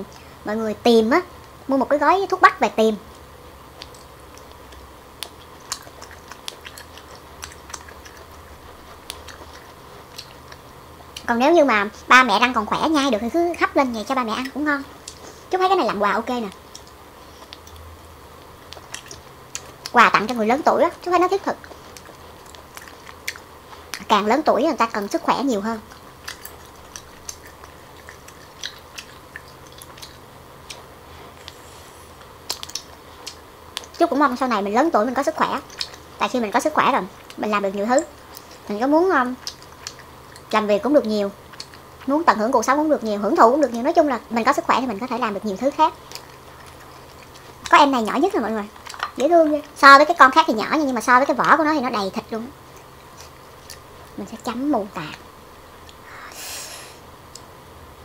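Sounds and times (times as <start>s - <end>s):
faint low hum: 0.0s - 58.0s
mouth clicks and smacks chewing: 3.1s - 56.2s.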